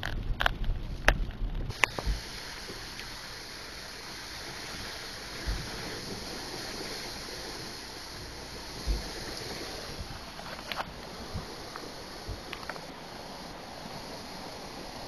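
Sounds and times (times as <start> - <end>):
car tyres through water: 0.0 - 15.0.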